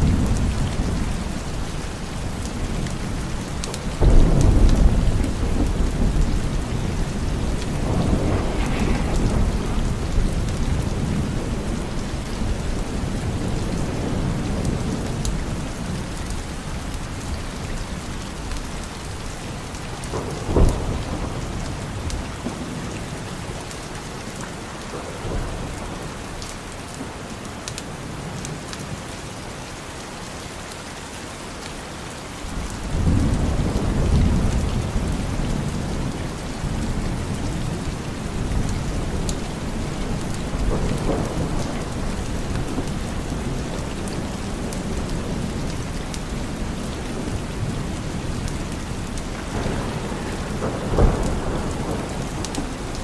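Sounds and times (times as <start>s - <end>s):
thunder rumbling: 0.0s - 23.7s, 32.5s - 53.0s
steady rain: 0.0s - 53.0s.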